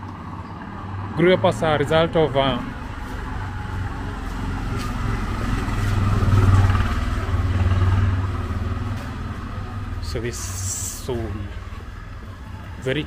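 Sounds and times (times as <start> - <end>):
small vehicle engine humming: 0.0 - 13.0.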